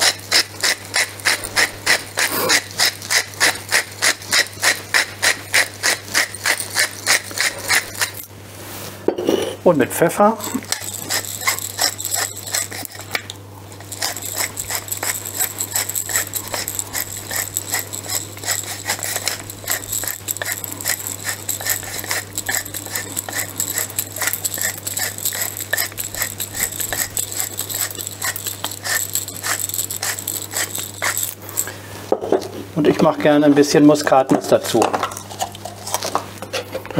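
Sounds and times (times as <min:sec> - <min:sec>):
pepper mill grinding: 0:00.0 - 0:08.3, 0:10.2 - 0:31.8, 0:34.7 - 0:36.2.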